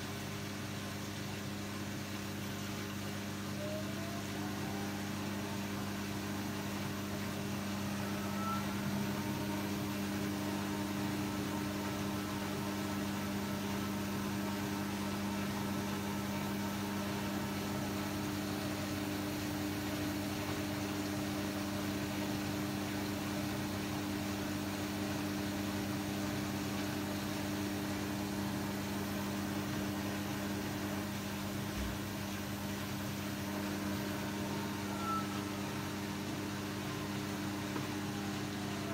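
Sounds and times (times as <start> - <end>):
mechanical hum with low drone: 0.0 - 38.9.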